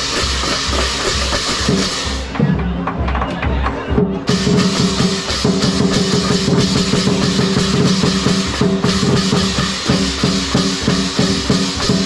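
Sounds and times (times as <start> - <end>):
cymbals clashing: 0.0 - 12.0
large drum beaten fast: 0.0 - 12.0.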